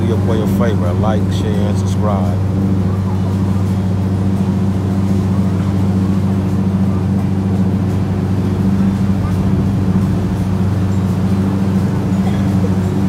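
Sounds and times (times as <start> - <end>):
boat engine running low: 0.0 - 13.0.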